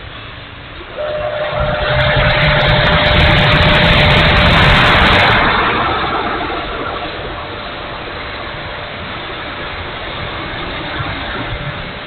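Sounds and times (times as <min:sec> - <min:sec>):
electric ducted fan whining: 0:00.0 - 0:12.0
rush of air: 0:00.0 - 0:12.0.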